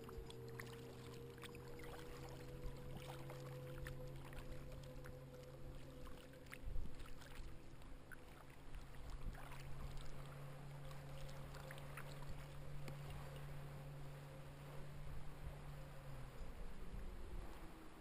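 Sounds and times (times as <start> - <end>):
steady low hum: 0.0 - 18.0
water splashing around kayak: 0.0 - 18.0.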